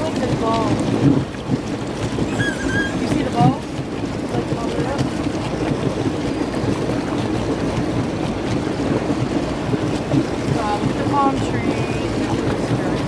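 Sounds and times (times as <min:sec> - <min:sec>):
motorboat engine running: 0:00.0 - 0:13.0
rushing water: 0:00.0 - 0:13.0
wind on the microphone: 0:00.0 - 0:13.0.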